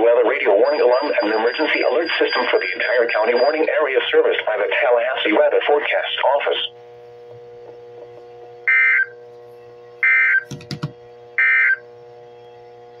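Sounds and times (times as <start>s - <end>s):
receiver hum: 0.0s - 13.0s.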